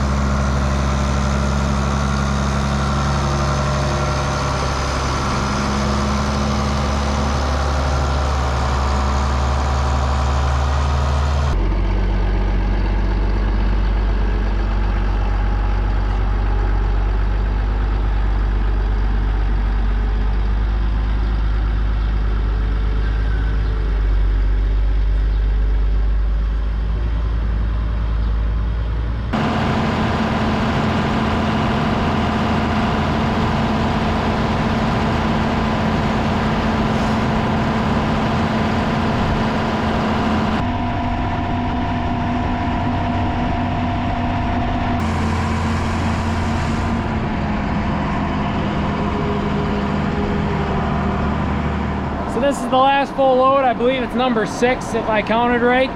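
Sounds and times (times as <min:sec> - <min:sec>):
tractor engine under load: 0:00.0 - 0:55.9.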